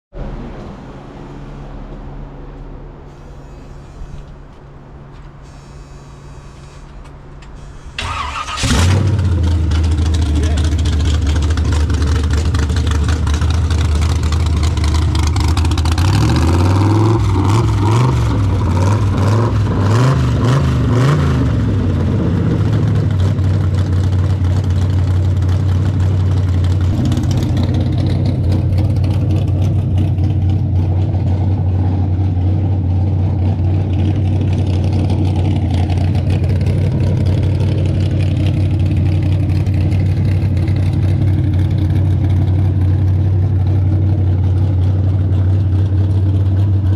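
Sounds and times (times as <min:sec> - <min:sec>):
pickup engine revving: 0:00.1 - 0:46.9.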